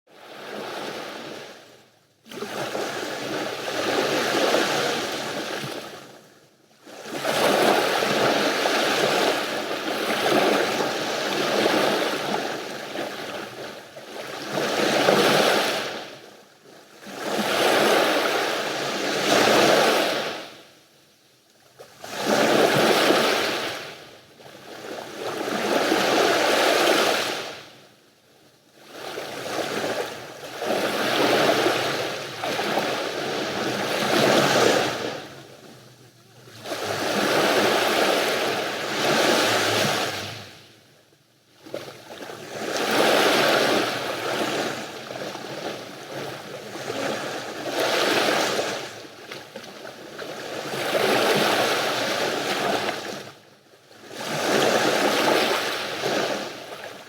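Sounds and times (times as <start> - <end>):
sea waves breaking on shore: 0.1 - 6.2, 6.8 - 16.4, 17.0 - 20.7, 22.0 - 27.8, 28.8 - 40.8, 41.6 - 53.4, 54.0 - 57.0.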